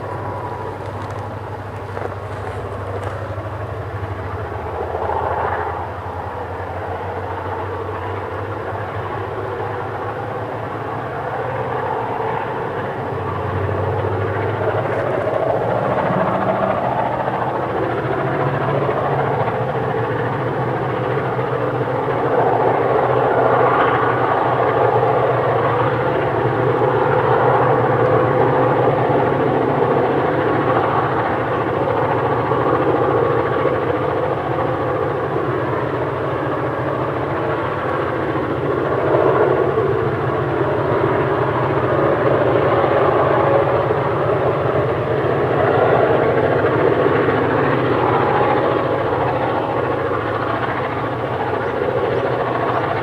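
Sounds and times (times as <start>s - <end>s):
diesel locomotive engines working hard: 0.0s - 53.0s.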